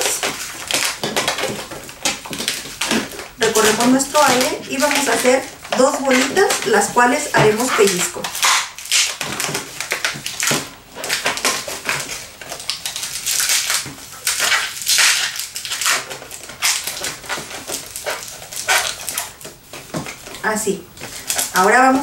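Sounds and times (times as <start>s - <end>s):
balloon squeaking and rubbing: 0.0s - 22.0s.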